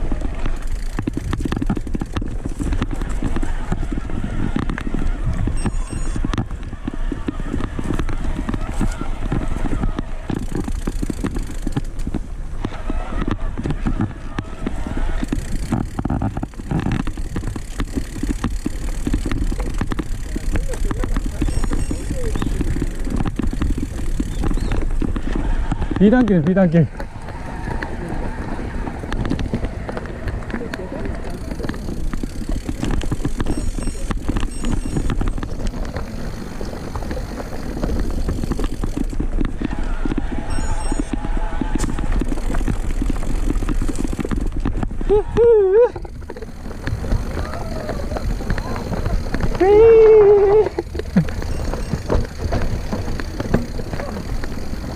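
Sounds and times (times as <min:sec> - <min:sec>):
bike rattling on rough trail: 0:00.0 - 0:54.9
tyre rumble on dirt: 0:00.0 - 0:54.9.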